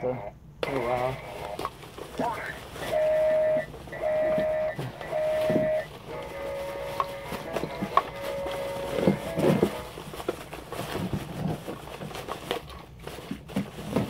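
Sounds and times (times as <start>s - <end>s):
plastic bag crinkling: 0.6s - 14.0s
cardboard box rummaged: 1.4s - 14.0s.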